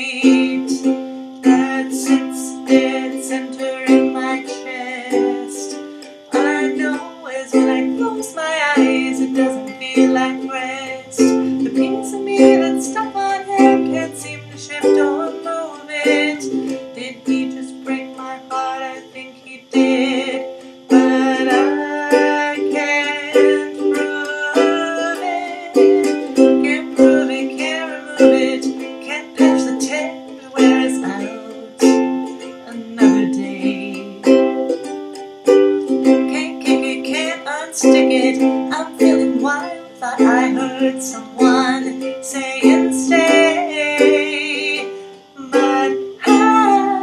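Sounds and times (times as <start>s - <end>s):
faint computer hiss: 0.0s - 47.0s
ukulele strumming chords: 0.0s - 47.0s
woman singing: 0.0s - 47.0s.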